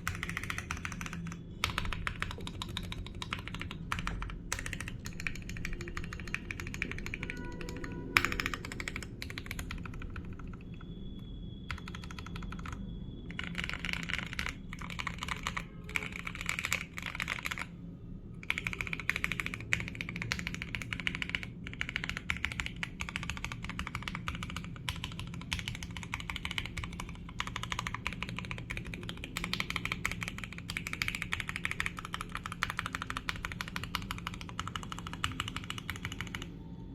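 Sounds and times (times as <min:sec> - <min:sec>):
fast typing on mechanical keyboard: 0:00.0 - 0:17.7, 0:18.4 - 0:36.6.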